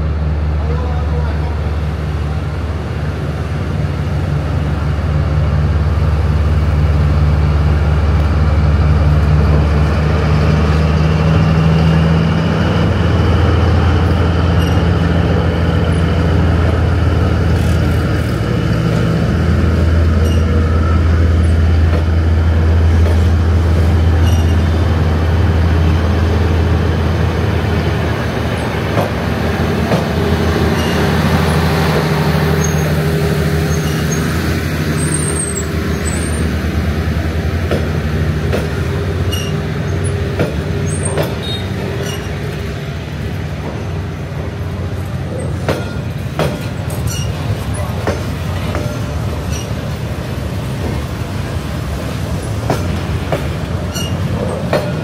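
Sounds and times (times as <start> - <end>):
heavy vehicle rumbling: 0.0 - 55.0.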